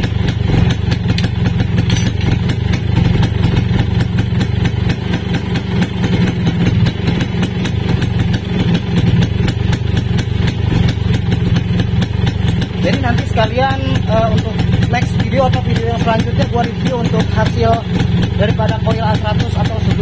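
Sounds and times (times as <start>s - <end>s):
two-stroke motorcycle engine idling: 0.0s - 20.0s.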